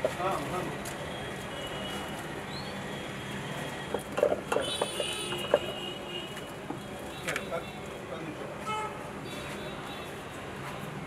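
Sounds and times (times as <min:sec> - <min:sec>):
traffic hum: 0:00.0 - 0:11.0.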